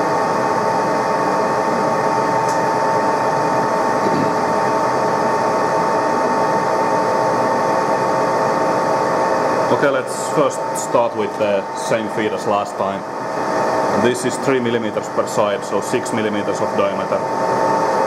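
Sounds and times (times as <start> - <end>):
lathe running: 0.0 - 18.0.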